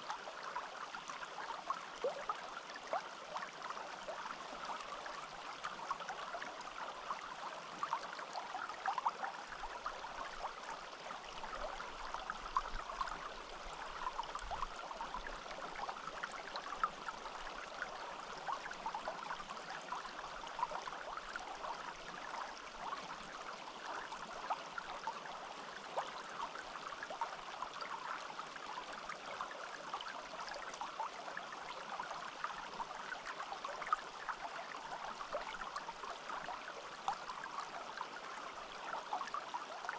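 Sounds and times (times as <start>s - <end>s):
stream babbling over stones: 0.1s - 39.9s.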